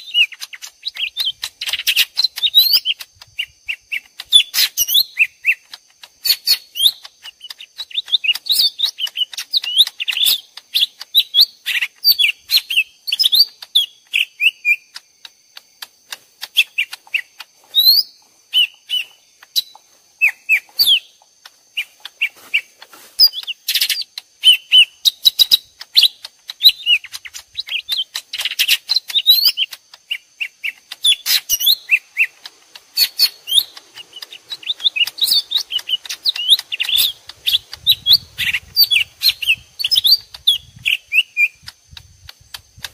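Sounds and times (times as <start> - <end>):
birds chirping and whistling: 0.0 - 42.9.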